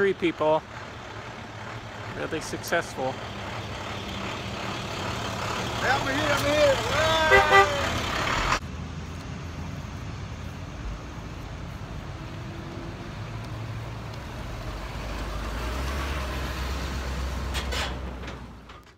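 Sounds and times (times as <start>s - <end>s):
truck engines rumbling: 0.0s - 18.9s.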